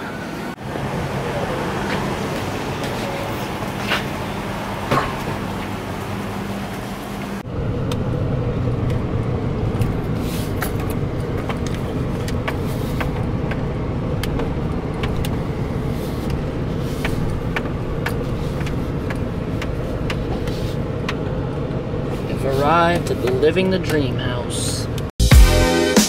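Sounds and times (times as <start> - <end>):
car tyres rumbling on gravel road: 0.6 - 25.1.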